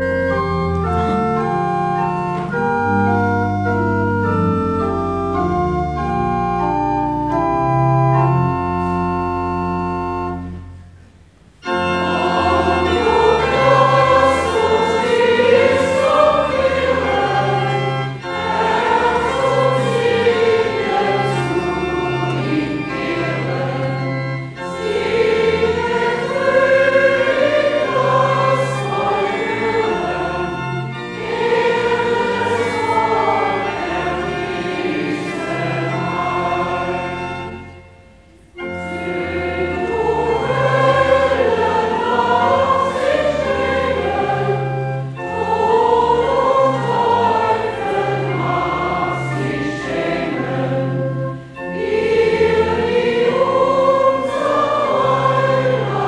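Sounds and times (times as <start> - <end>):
choir singing a hymn: 0.0 - 10.7, 11.6 - 56.0.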